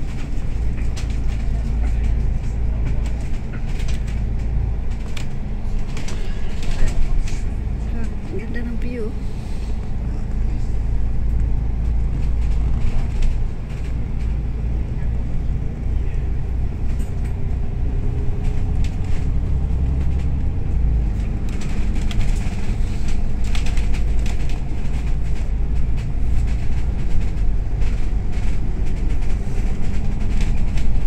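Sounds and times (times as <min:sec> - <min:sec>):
bus engine and tyre rumble: 0:00.0 - 0:31.0
clicks and rattles of bus body: 0:00.0 - 0:31.0.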